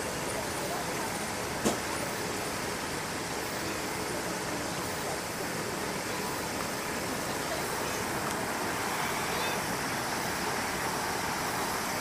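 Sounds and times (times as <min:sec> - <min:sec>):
broad hiss background noise: 0:00.0 - 0:12.0.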